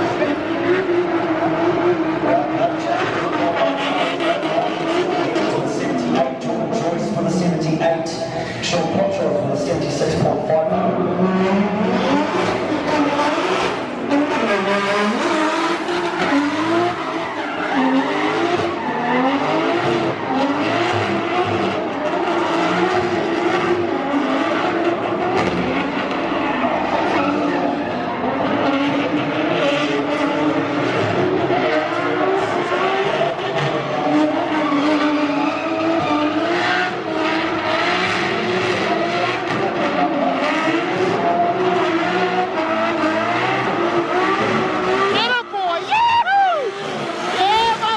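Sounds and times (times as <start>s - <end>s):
car engines revving hard: 0.0s - 47.9s.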